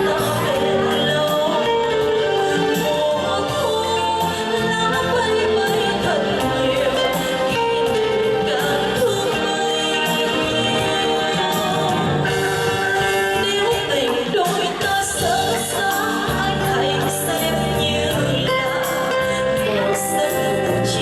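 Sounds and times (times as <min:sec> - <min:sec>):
instrumental accompaniment: 0:00.0 - 0:21.0
woman singing a ballad: 0:00.0 - 0:21.0.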